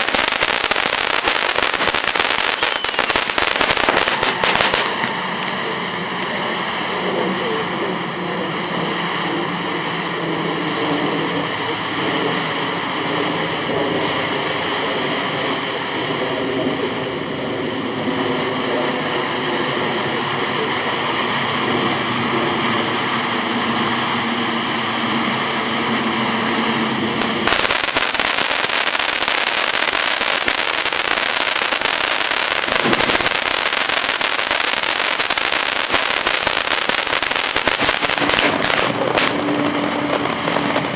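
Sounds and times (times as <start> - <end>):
firework fountain spraying hiss: 0.0 - 40.9.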